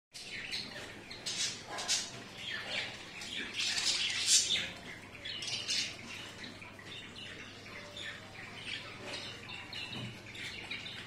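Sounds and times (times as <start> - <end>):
birds chirping and chattering: 0.2 - 11.0.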